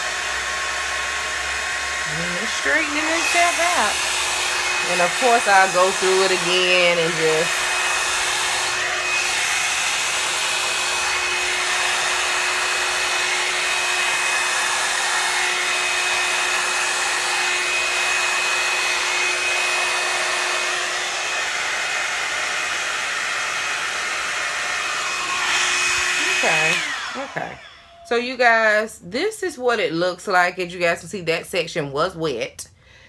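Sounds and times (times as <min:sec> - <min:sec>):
hair dryer blowing air: 0:00.0 - 0:28.8.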